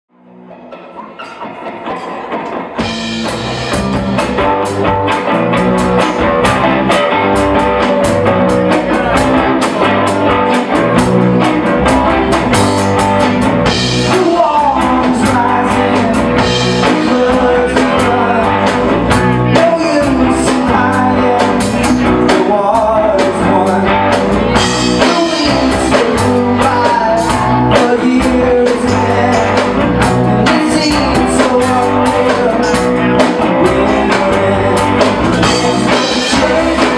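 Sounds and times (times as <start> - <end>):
live rock band playing: 0.2 - 36.9.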